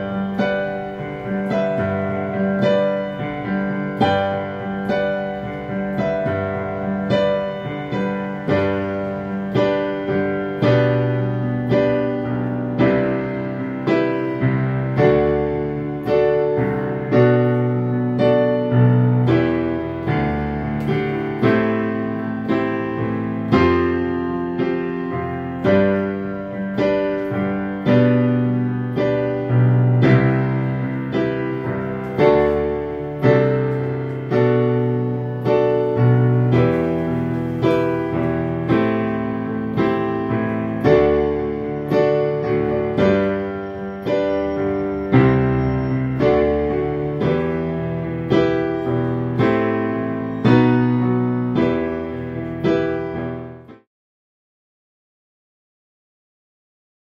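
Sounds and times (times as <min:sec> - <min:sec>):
digital piano pop ballad: 0:00.0 - 0:53.9.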